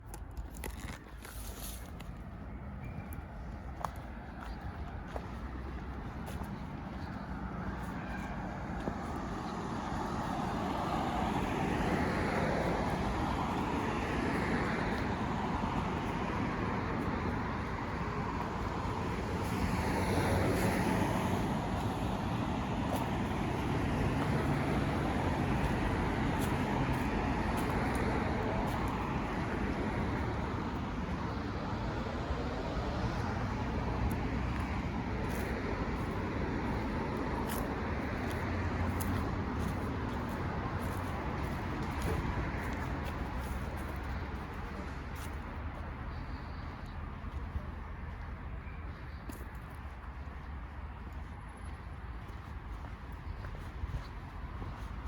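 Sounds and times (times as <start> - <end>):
cars passing on street: 0.0 - 55.0.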